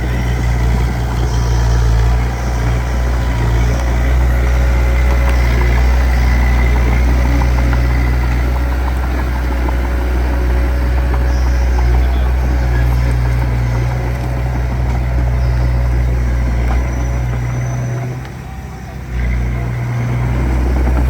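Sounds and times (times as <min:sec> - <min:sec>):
bulldozer clatter: 0:00.0 - 0:21.0
bulldozer diesel engine droning: 0:00.0 - 0:21.0.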